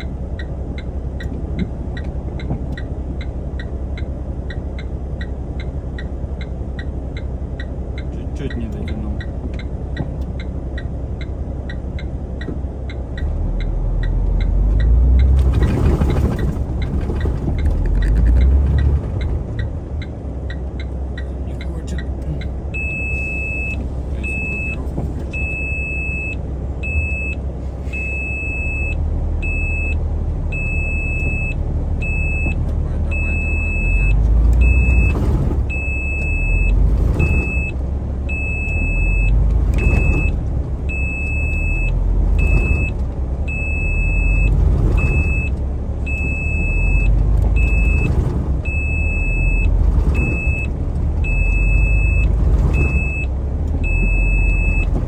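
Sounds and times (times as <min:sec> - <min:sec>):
diesel truck engine rumbling: 0:00.0 - 0:55.0.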